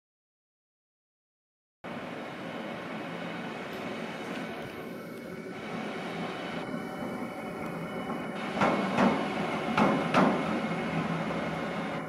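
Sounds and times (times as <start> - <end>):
locomotive rumble: 1.9 - 12.0.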